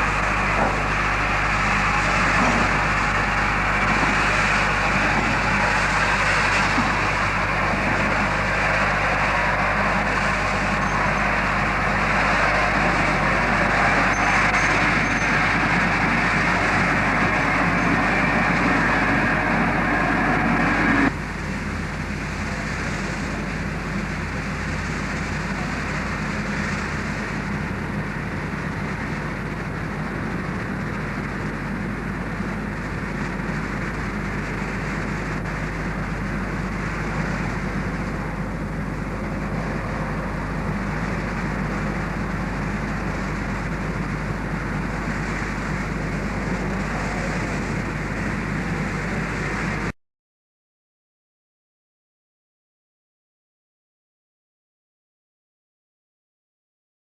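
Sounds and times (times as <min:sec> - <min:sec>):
steam locomotive hiss and rumble: 0:00.0 - 0:49.9.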